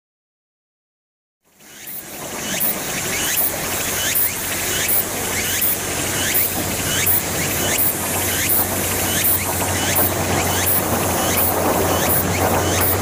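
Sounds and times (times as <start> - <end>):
diesel railcar engine hum: 1.7 - 13.0
insect-like descending hiss call: 1.7 - 13.0.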